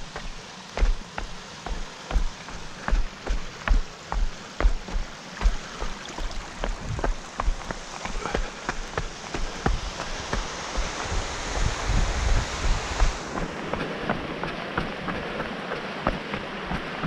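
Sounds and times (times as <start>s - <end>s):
footsteps crunching on gravel: 0.0s - 17.0s
steady rushing hiss: 0.0s - 17.0s.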